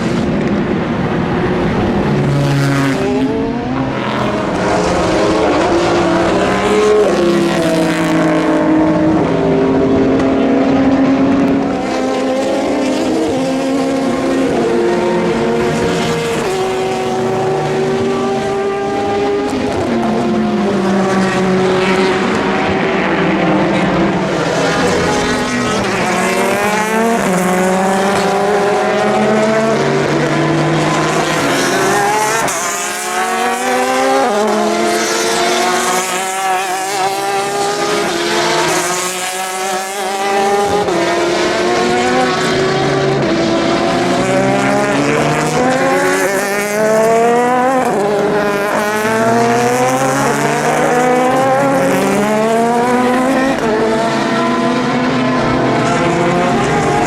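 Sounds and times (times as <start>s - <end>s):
racing car engines shifting gears: 0.0s - 57.0s.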